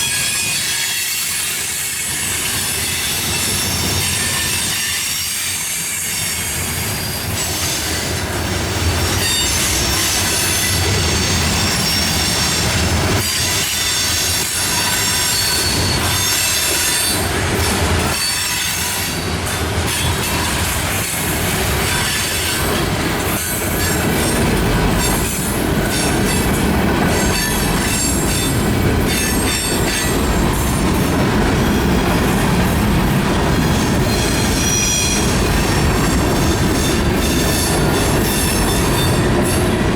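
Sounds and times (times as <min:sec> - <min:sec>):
railroad cars rumbling past: 0:00.0 - 0:39.9
train wheels squealing: 0:00.0 - 0:39.9.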